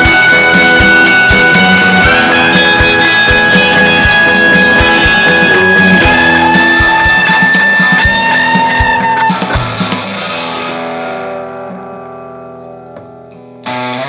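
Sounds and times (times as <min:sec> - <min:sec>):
instrumental rock music: 0:00.0 - 0:14.0.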